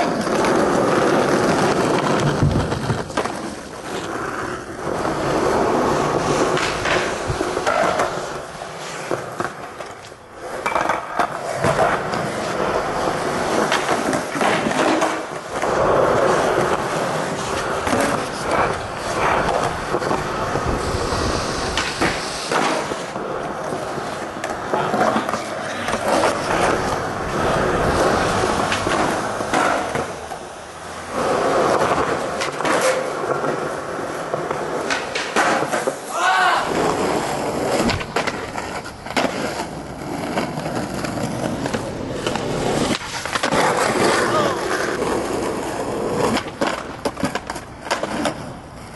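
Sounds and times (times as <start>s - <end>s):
skateboard clacking: 0.0s - 48.9s
skateboard scraping on rail: 0.0s - 48.9s
skateboard wheels rolling on concrete: 0.0s - 48.9s.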